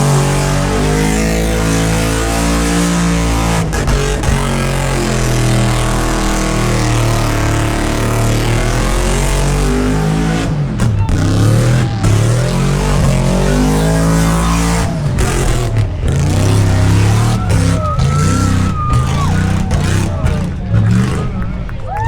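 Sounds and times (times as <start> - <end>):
engine revving in a burnout: 0.0 - 22.0.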